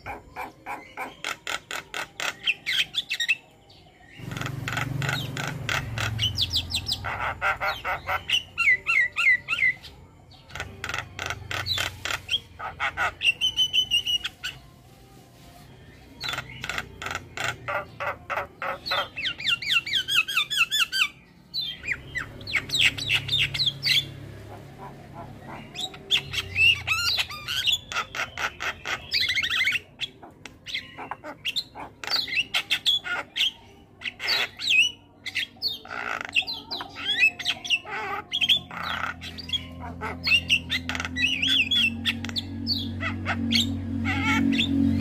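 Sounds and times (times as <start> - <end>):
mynas chattering and whistling: 0.0 - 45.0.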